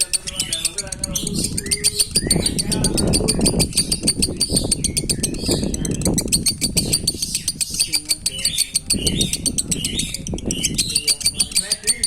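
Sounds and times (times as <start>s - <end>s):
lovebird chattering: 0.0s - 12.0s.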